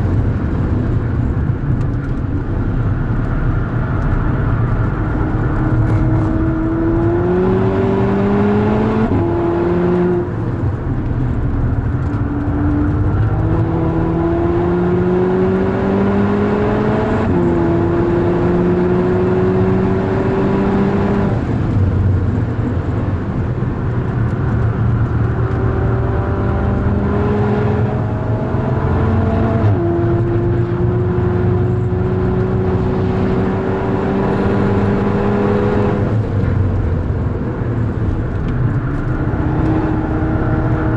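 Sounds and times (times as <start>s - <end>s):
car engine revving through gears: 3.3s - 40.9s.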